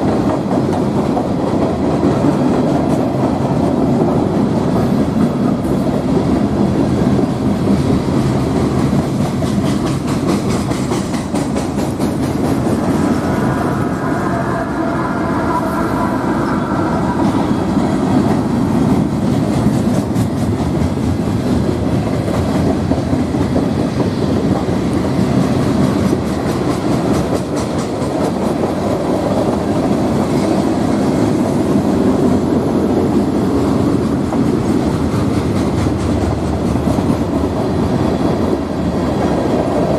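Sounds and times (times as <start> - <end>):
wheels clacking over rail joints: 0.0 - 13.4, 16.6 - 39.9
freight train cars rumbling: 0.0 - 39.9.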